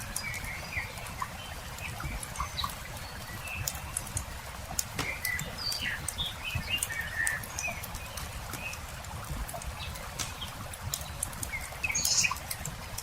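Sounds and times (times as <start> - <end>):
campfire crackling and popping: 0.0 - 13.0
small birds chirping: 0.0 - 13.0.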